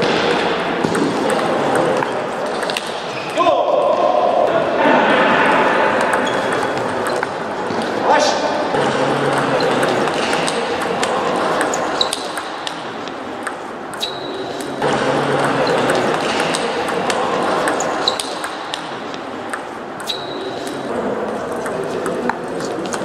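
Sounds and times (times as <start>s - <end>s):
table tennis ball hits: 0.0s - 3.4s, 5.5s - 8.0s, 8.8s - 20.9s, 21.5s - 23.0s
murmur of voices: 0.0s - 23.0s.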